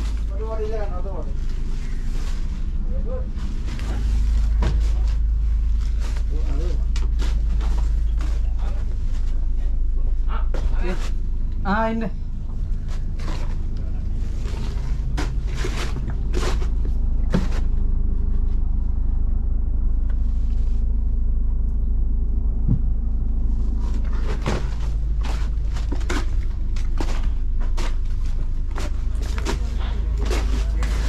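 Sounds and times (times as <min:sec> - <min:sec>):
engine rumbling: 0:00.0 - 0:31.0.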